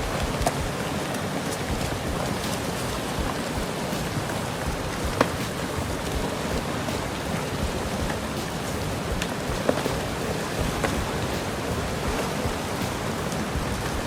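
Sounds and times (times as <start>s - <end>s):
water hissing: 0.0s - 14.0s.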